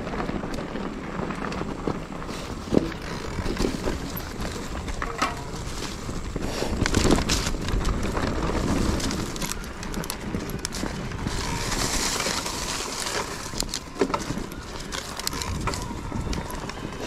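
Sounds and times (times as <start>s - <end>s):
bike knocking and rattling: 0.0s - 17.0s.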